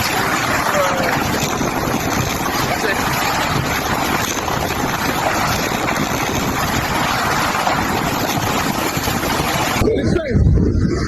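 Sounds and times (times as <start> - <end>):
wind rushing against microphone: 0.0 - 11.0.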